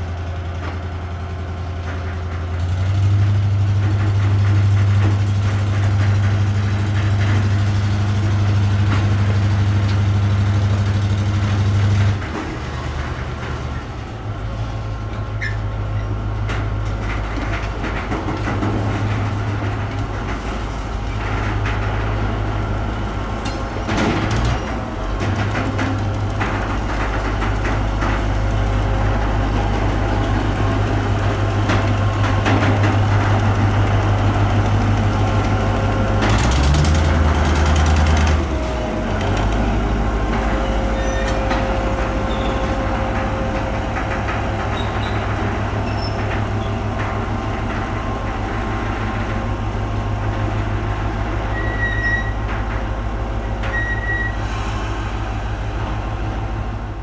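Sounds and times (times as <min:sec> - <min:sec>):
diesel locomotive droning: 0:00.0 - 0:57.0.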